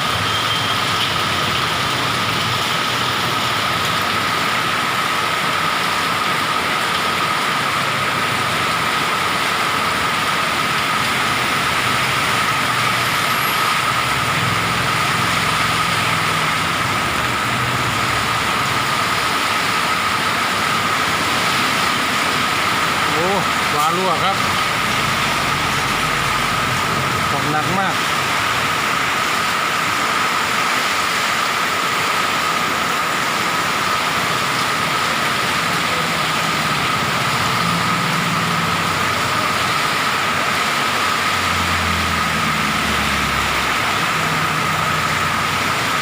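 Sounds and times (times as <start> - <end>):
heavy rain: 0.0 - 46.0.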